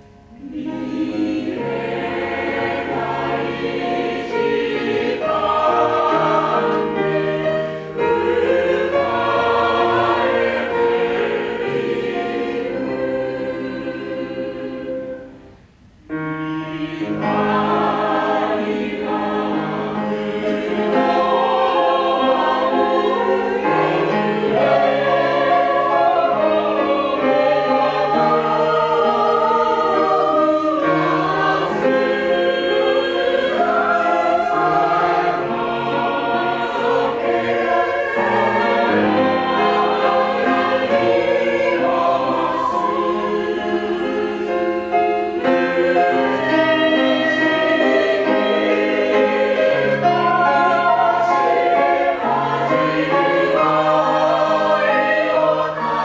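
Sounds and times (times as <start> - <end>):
choir singing: 0.0 - 56.0
grand piano accompaniment: 0.0 - 56.0.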